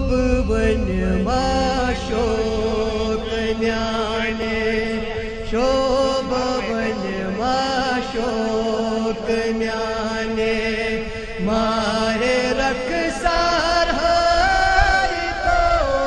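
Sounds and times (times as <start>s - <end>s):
men chanting into a microphone: 0.0s - 16.0s.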